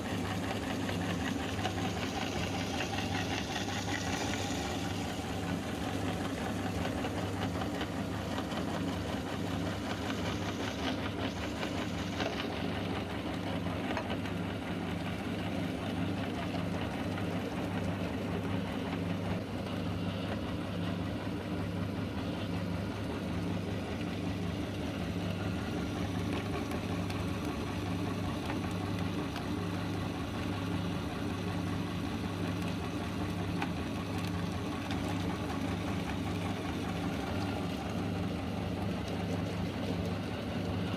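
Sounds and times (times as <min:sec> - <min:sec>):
meat grinder motor humming: 0:00.0 - 0:40.9.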